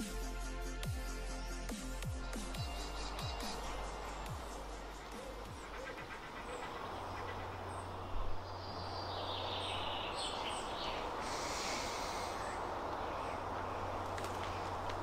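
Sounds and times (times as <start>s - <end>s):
birds chirping faintly: 1.6s - 15.0s
low hum and hiss: 2.0s - 15.0s.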